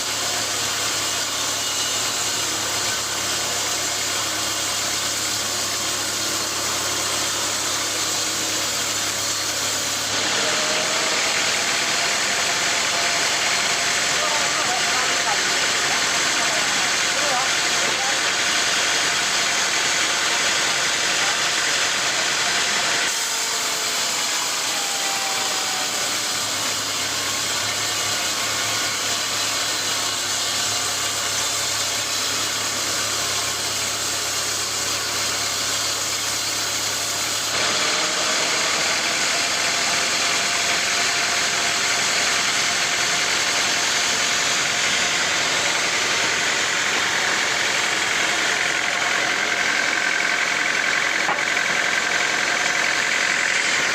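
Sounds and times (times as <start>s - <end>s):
sawmill machinery running: 0.0s - 53.9s.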